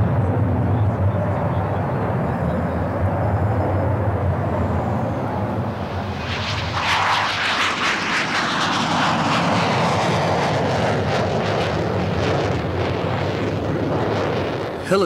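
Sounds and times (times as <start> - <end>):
aircraft engines passing: 0.0 - 15.0.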